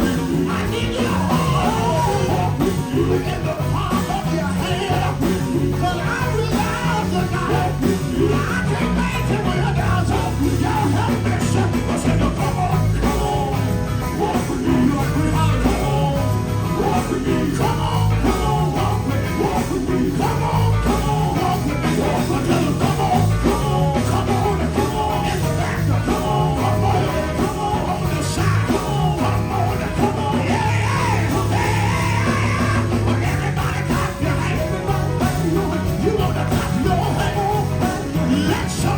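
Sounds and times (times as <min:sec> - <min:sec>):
live gospel band music: 0:00.0 - 0:38.9
voices singing: 0:00.0 - 0:38.9.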